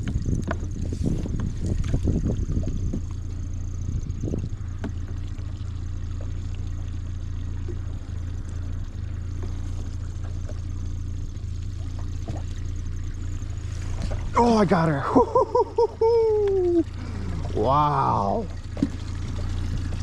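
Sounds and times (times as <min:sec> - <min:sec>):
boat motor idling: 0:00.0 - 0:20.0.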